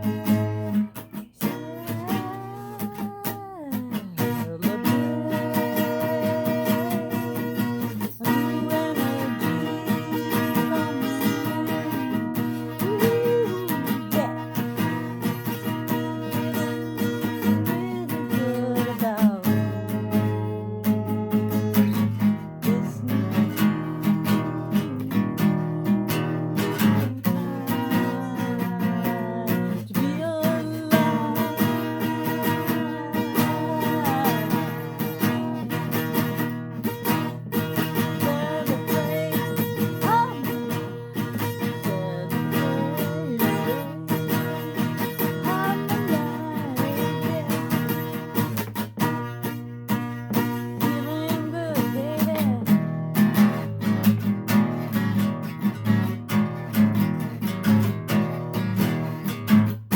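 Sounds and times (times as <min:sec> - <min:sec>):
acoustic guitar strummed and picked: 0:00.0 - 0:59.9.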